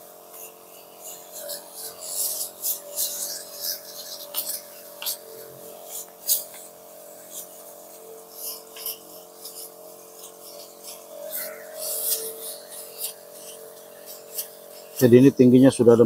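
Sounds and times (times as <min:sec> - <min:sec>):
sprayer nozzle hissing: 0:00.0 - 0:16.0
steady hum: 0:00.0 - 0:16.0.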